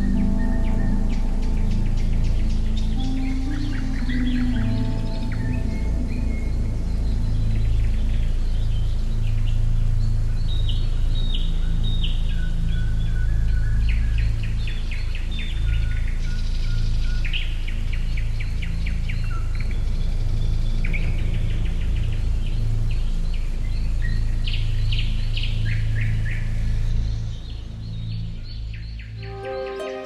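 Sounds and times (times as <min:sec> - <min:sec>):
soft low music: 0:00.0 - 0:30.0
wild birds singing: 0:00.0 - 0:30.0.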